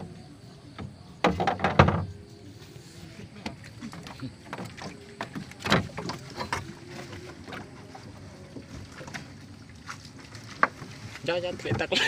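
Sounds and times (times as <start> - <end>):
gear knocking in wooden canoe: 0.8 - 2.1, 3.4 - 12.0.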